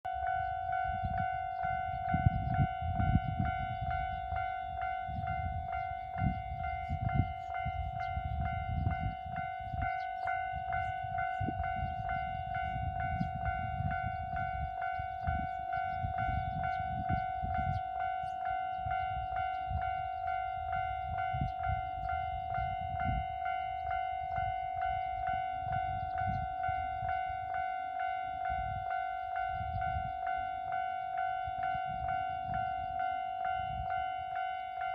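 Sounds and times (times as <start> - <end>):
level crossing bell ringing: 0.1 - 34.9.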